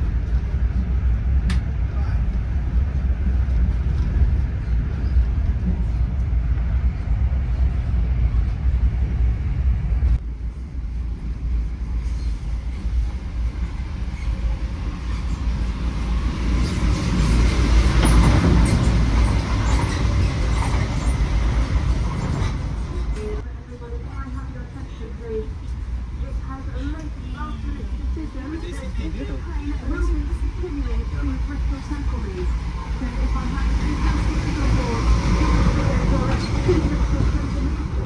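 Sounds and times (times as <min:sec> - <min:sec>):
train rumbling on rails: 0:00.0 - 0:38.0.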